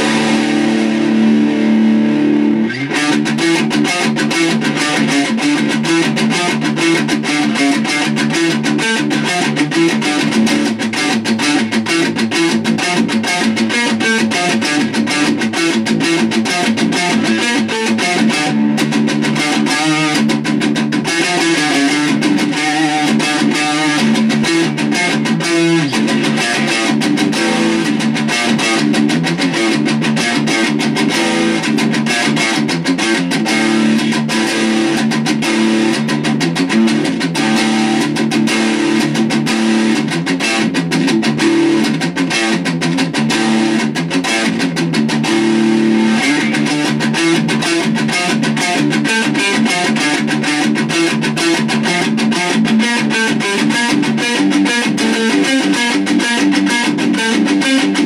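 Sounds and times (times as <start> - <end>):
distorted electric guitar riff: 0.0 - 58.0.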